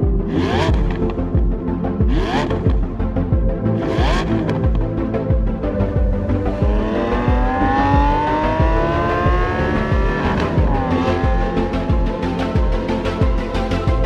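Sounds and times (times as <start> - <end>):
car engine accelerating: 0.0 - 14.0
music with a steady beat: 0.0 - 14.0.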